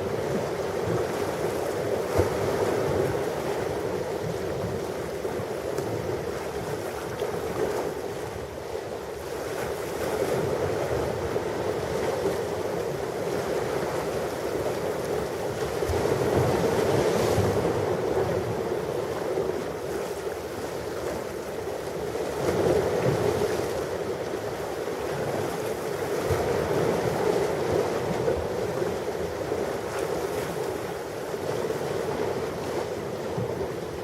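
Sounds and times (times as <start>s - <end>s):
ocean waves breaking on shore: 0.0s - 34.0s.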